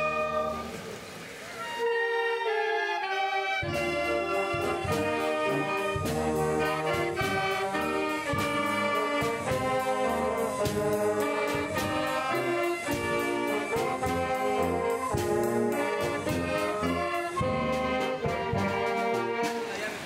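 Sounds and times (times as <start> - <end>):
brass band playing: 0.0 - 20.0
percussion beat: 3.6 - 20.0.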